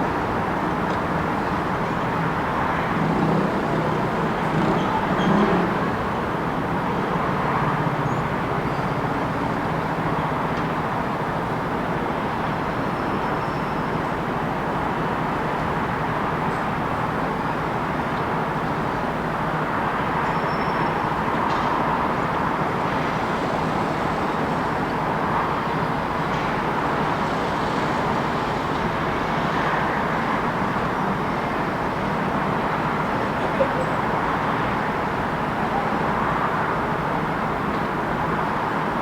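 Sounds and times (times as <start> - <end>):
city vehicle noise: 0.0 - 39.0.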